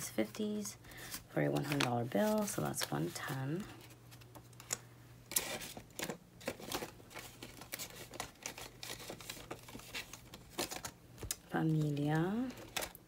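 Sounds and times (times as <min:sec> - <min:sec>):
banknotes and plastic rustling: 0:00.0 - 0:13.0.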